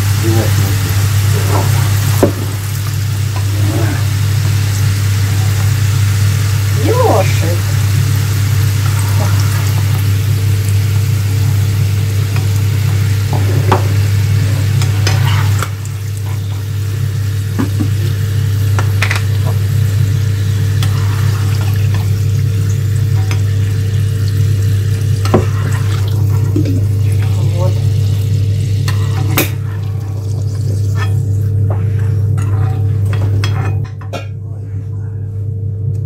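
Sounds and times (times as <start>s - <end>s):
fries sizzling in hot oil: 0.0s - 33.9s
steady low hum: 0.0s - 36.0s.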